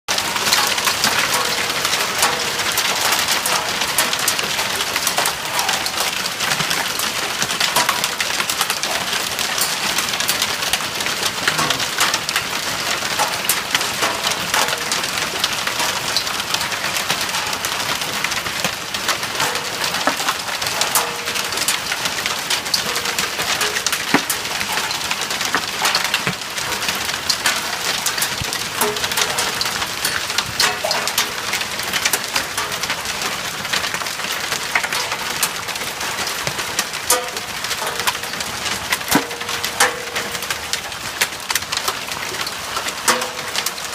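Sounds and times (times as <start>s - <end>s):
hail falling: 0.1s - 43.9s
hailstones clicking: 0.1s - 43.9s.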